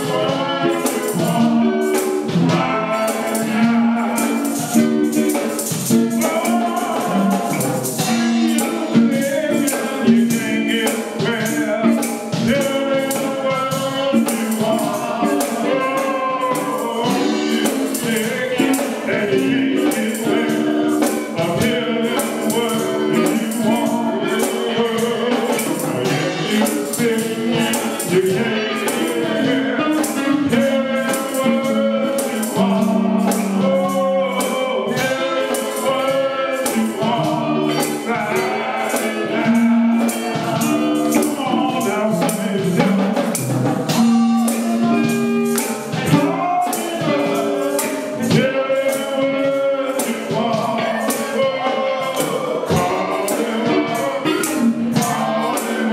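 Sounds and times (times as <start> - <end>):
gospel music: 0.0 - 55.9
tambourine shaking: 0.0 - 55.9.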